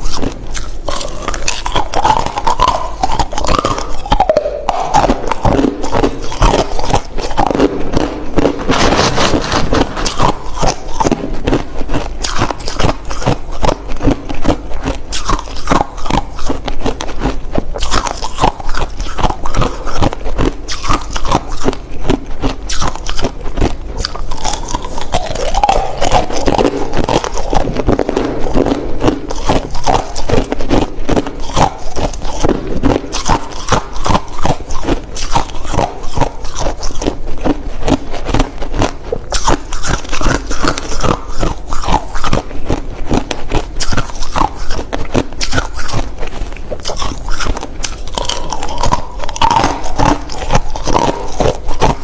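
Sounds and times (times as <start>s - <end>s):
chewing crushed ice: 0.0s - 52.0s.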